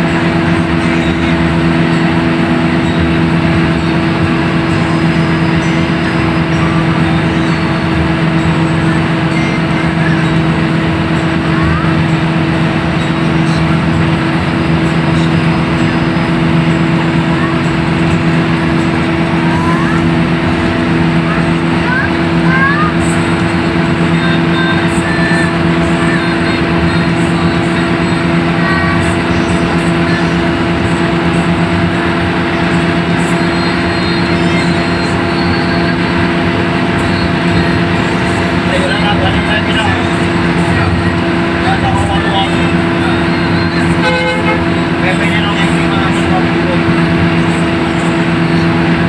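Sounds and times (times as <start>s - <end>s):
bus engine drone: 0.0s - 49.0s
tyre and road noise: 0.0s - 49.0s.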